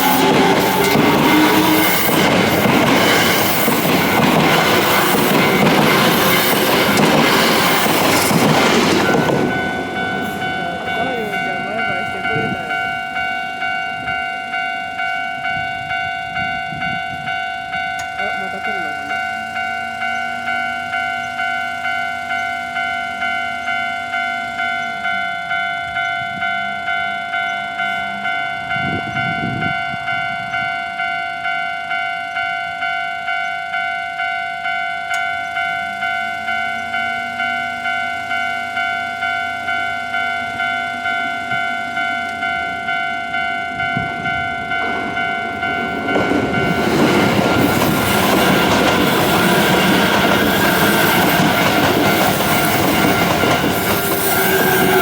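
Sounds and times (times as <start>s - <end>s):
level crossing warning bell: 0.0s - 55.0s
train passing over tracks: 0.0s - 55.0s.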